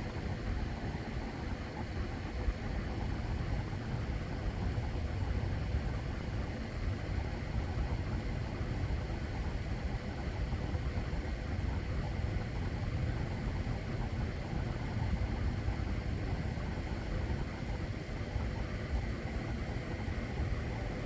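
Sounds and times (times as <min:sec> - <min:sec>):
air conditioner running: 0:00.0 - 0:21.0
electric fan airflow: 0:00.0 - 0:21.0.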